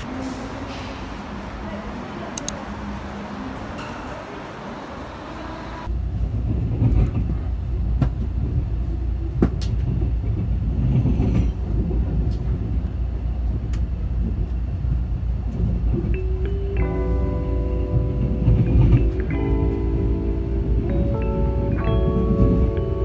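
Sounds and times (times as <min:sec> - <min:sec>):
station hubbub: 0:00.0 - 0:23.0
train rumble inside carriage: 0:00.0 - 0:23.0.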